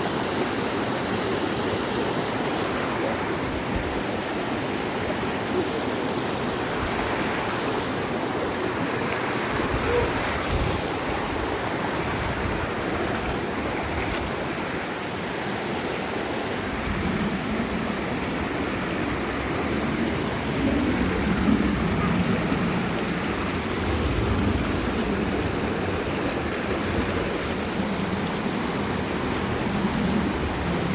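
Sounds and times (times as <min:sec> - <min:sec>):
stream rushing over rocks: 0:00.0 - 0:30.9.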